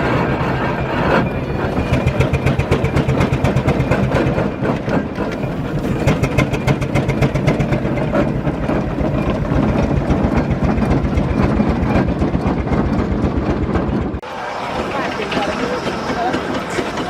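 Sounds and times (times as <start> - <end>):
rapid mechanical clatter: 0.0 - 17.0
steam engines rumbling: 0.0 - 17.0.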